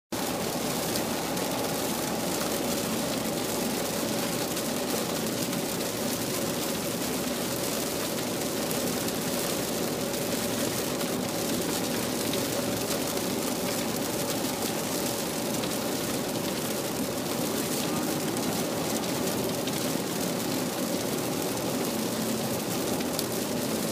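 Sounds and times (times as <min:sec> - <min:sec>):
heavy rain on car roof: 0:00.2 - 0:23.9.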